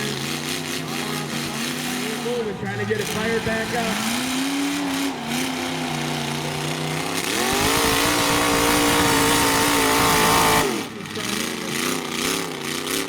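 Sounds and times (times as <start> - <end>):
pickup truck engine revving: 0.0 - 13.0.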